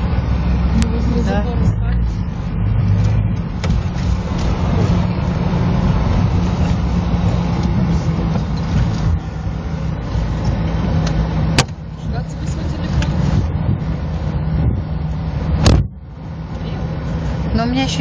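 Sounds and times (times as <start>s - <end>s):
car engine running: 0.0s - 18.0s
tyres on snowy road: 0.0s - 18.0s.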